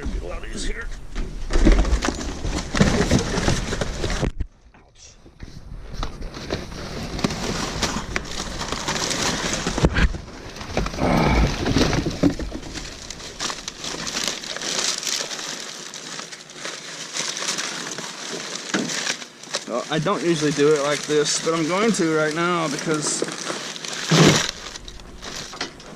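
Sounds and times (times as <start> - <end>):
cardboard and trash rustling: 1.2 - 4.5, 5.4 - 25.9.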